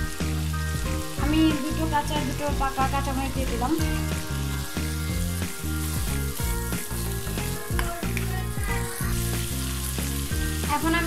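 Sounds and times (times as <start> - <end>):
background music with bass line: 0.0 - 11.0
curry sizzling in a wok: 0.0 - 11.0.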